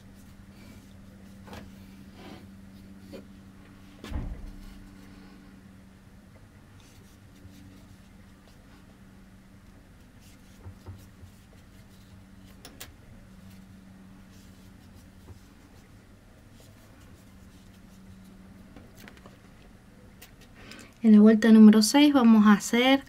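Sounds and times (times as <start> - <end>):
low hum: 0.0 - 21.1.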